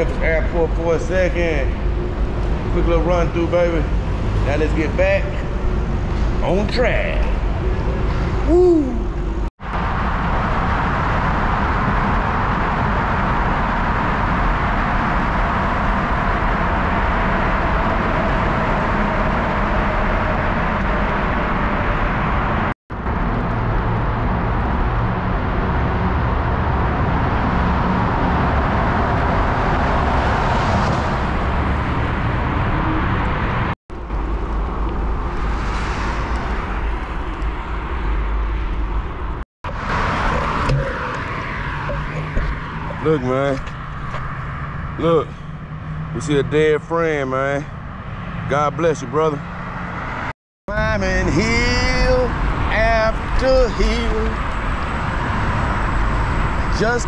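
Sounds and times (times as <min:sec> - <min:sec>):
car traffic passing: 0:00.0 - 0:57.0
road noise: 0:00.0 - 0:57.0.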